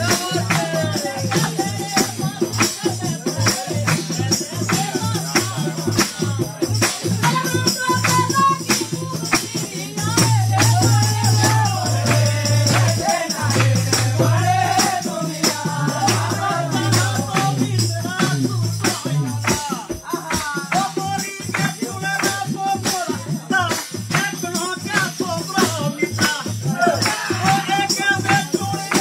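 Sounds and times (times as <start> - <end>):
hand percussion beat: 0.0 - 29.0.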